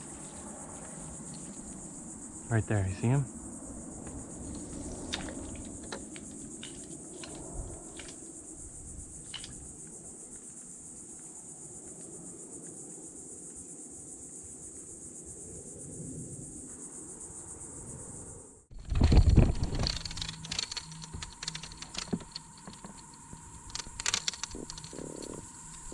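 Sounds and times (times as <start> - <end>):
high-pitched insect buzz: 0.0 - 12.8, 16.3 - 25.9.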